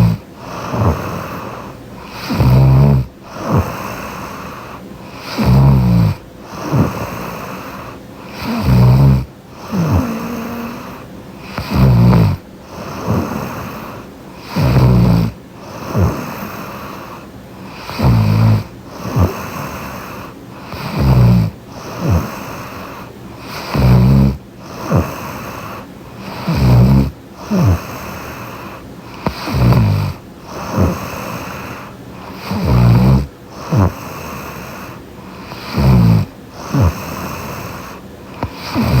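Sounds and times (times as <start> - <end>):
woman snoring: 0.0 - 39.0.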